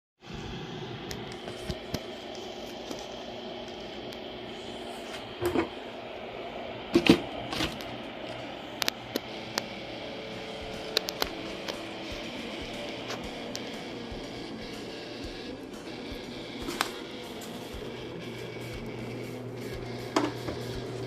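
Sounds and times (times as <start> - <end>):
machine hum: 0.2 - 21.0.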